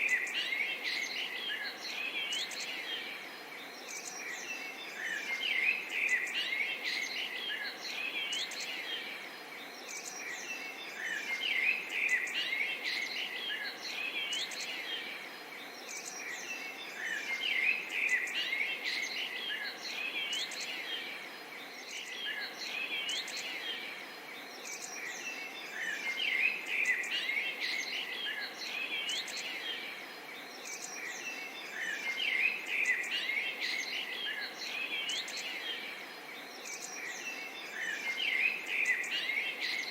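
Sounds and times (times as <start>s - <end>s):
faint steady hiss: 0.0s - 39.9s
small birds chirping and trilling: 0.0s - 39.9s.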